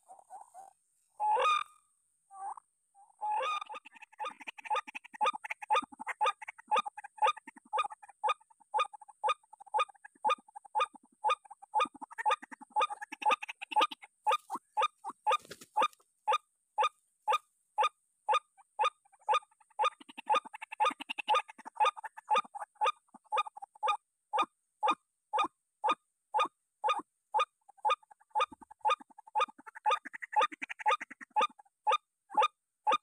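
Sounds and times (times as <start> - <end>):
waterhen call: 0.0 - 1.8, 3.2 - 33.0.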